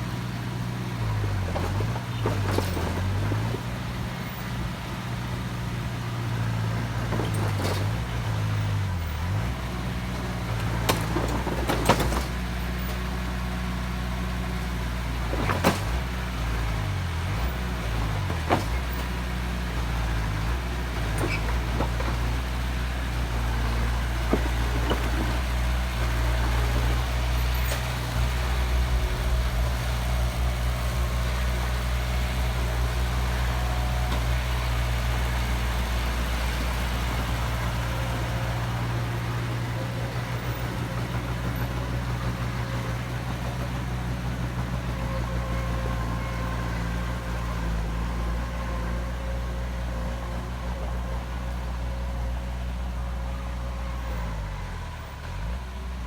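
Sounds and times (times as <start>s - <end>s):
heavy machine engine droning: 0.0s - 56.0s.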